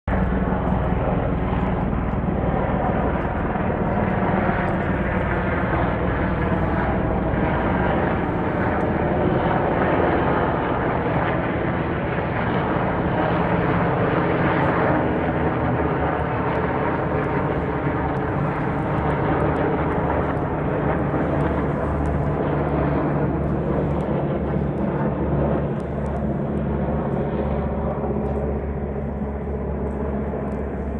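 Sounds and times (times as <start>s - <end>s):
engine drone: 0.1s - 30.9s.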